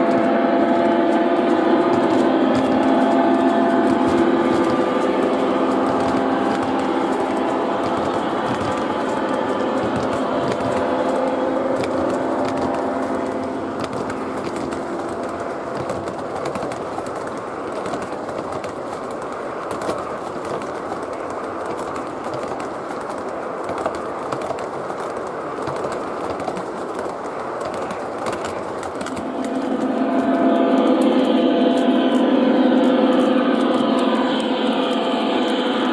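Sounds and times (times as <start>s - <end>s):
louder hum: 0.0s - 23.7s, 28.9s - 35.9s
model train wheels rumbling on rails: 0.0s - 35.9s.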